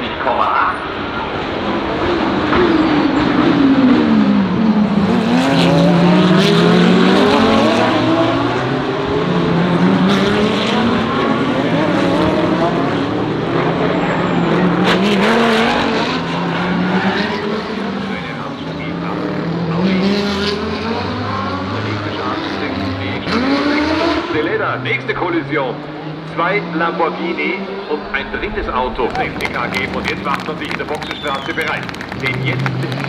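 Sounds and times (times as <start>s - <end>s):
race car engines: 0.0s - 33.0s.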